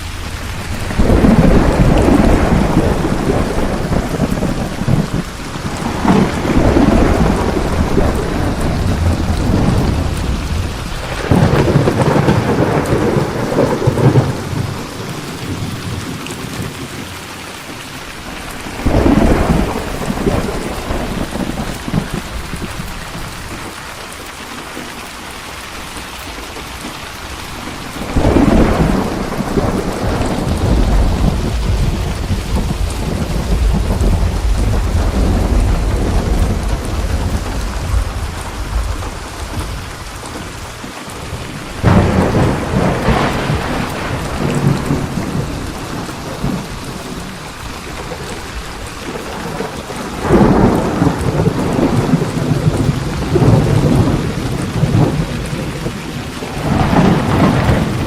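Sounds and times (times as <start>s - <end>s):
thunderclaps rumbling: 0.0s - 25.0s, 25.7s - 58.0s
steady rain: 0.0s - 58.0s.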